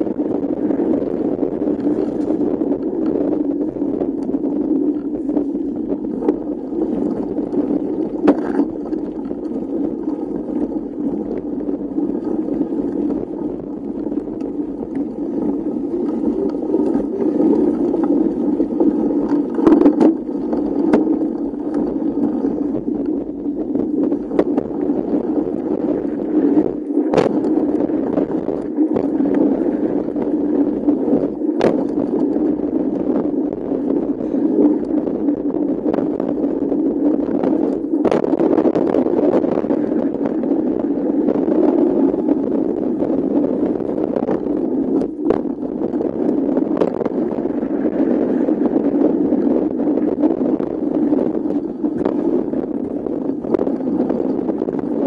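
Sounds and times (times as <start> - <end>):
bike tyres rumbling: 0.0 - 55.0.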